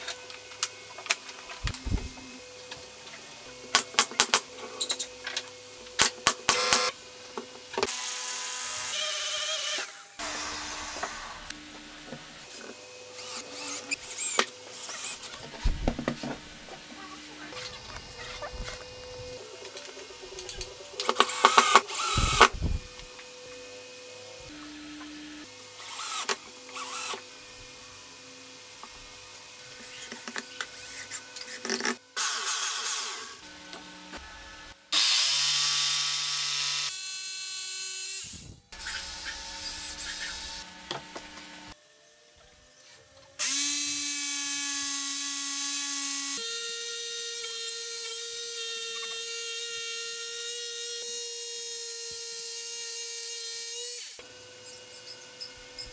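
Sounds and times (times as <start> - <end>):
power tool whirring: 0.0 - 55.9
electric jigsaw running: 6.0 - 41.8, 43.4 - 54.4.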